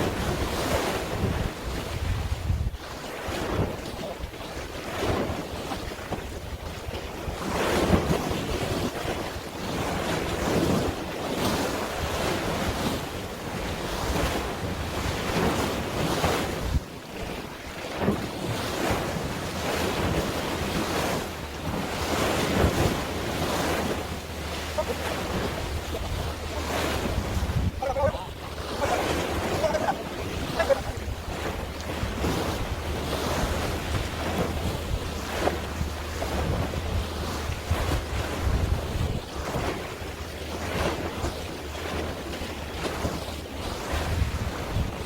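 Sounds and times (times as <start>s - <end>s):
sea waves washing: 0.0s - 45.0s
wind buffeting microphone: 0.0s - 45.0s.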